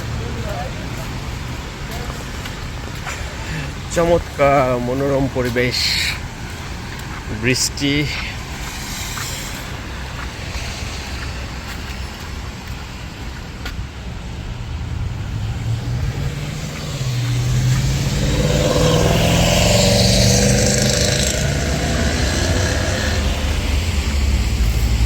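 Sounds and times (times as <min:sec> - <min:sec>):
tyres hissing on wet road: 0:00.0 - 0:25.0
vehicle engine hum: 0:00.0 - 0:25.0.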